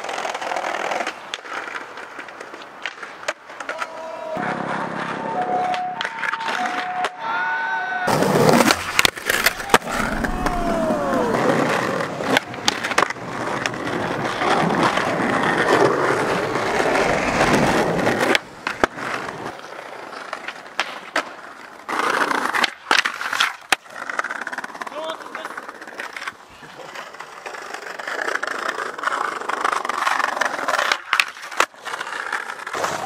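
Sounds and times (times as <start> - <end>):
skateboard trucks scraping ledge: 0.0 - 7.2, 8.1 - 33.0
skateboard clacking: 0.0 - 7.3, 8.1 - 33.0
skateboard wheels rolling on paving: 0.0 - 33.0.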